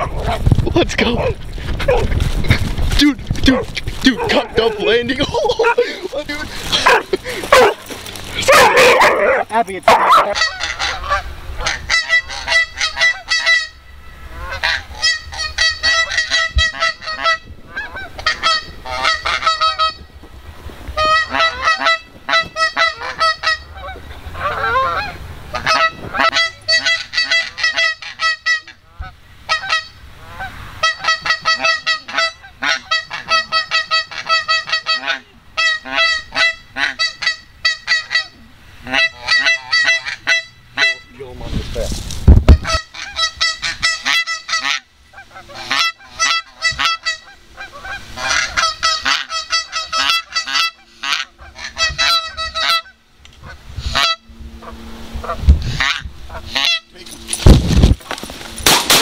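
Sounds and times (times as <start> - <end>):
geese honking: 3.5 - 20.2, 20.9 - 41.3, 42.5 - 59.0.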